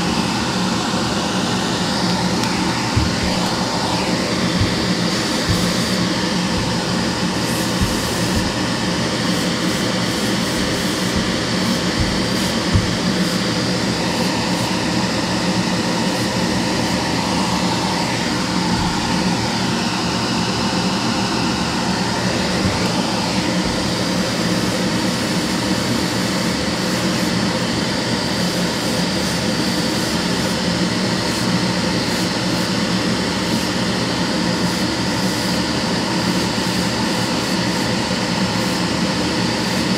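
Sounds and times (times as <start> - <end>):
extractor fan running: 0.0 - 39.9.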